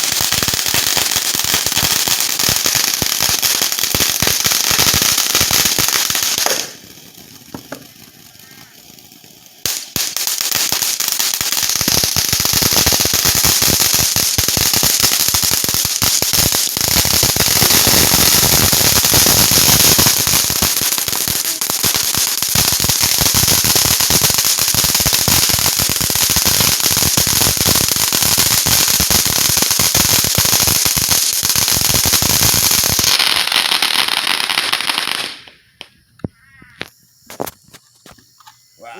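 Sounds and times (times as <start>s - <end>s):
fireworks crackling pops: 0.0s - 38.9s.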